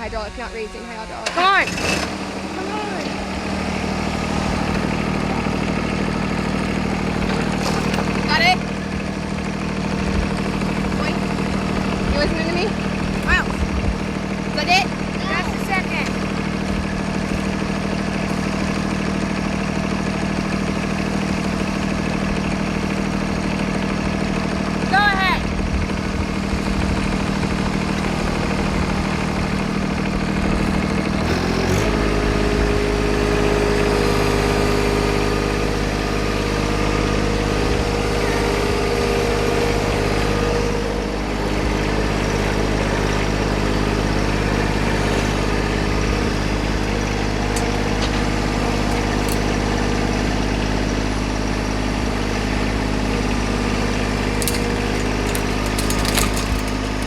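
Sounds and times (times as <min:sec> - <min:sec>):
tractor engine idling and revving: 0:00.0 - 0:57.0.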